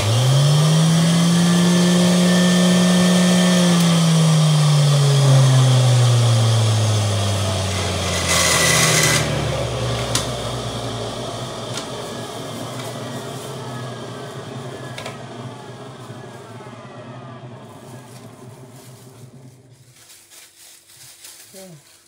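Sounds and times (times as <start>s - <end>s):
juicer motor spinning down: 0.0s - 19.8s.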